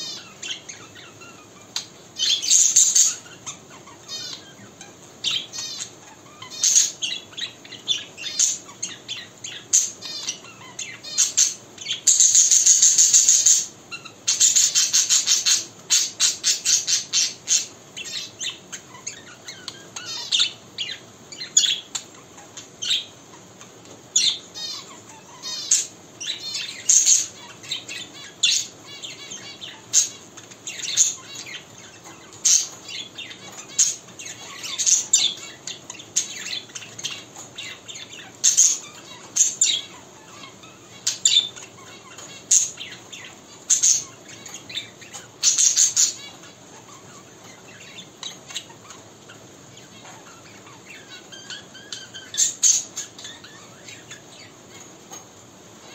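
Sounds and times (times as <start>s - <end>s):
budgerigar chirping and warbling: 0.0s - 23.5s, 24.2s - 54.9s.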